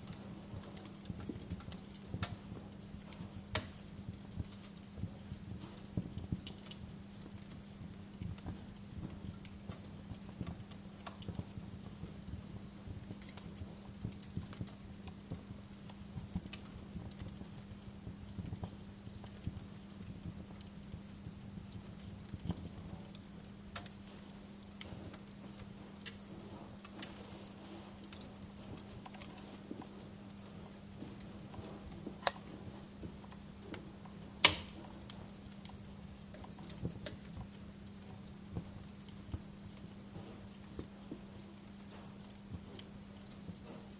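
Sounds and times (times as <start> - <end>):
low steady hum: 0.0 - 43.9
wood fire crackling: 0.0 - 43.9.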